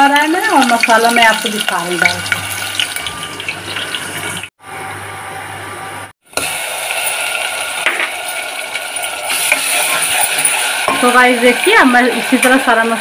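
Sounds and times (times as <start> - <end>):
onions sizzling in hot oil: 0.0 - 4.5, 6.2 - 13.0.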